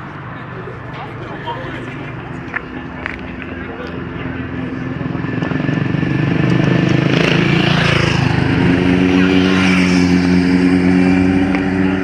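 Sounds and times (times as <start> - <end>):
car engine revving passing: 0.0 - 12.0.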